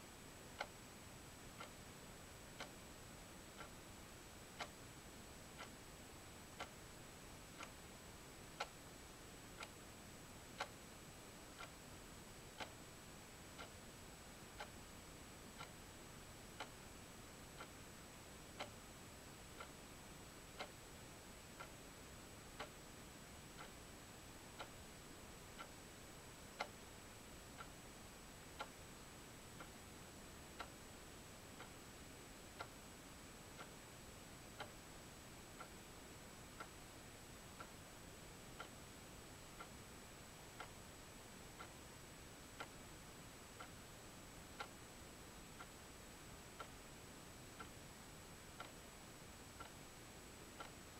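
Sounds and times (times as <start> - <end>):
faint hiss: 0.0 - 50.9
clock ticking: 0.6 - 0.8, 1.5 - 2.8, 3.4 - 6.8, 7.4 - 7.9, 8.5 - 9.0, 9.6 - 10.8, 11.4 - 17.8, 18.4 - 21.9, 22.5 - 33.9, 34.5 - 49.9, 50.5 - 50.9.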